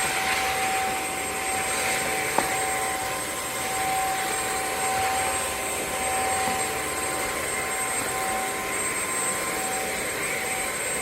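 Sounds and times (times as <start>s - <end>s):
cordless vacuum running: 0.0s - 11.0s.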